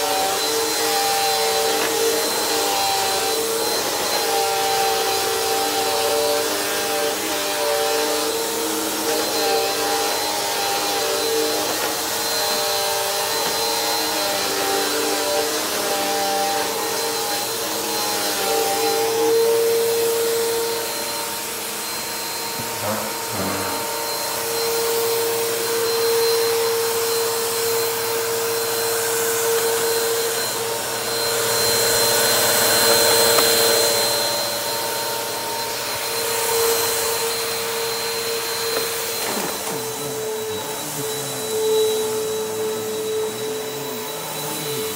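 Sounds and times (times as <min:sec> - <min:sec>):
vacuum cleaner motor whine: 0:00.0 - 0:44.9.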